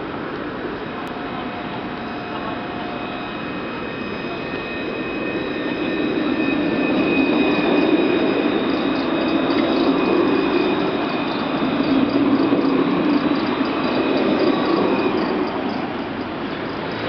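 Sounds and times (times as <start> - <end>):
tram wheels rumbling: 0.0 - 17.0
thin high whining tones: 0.8 - 17.0.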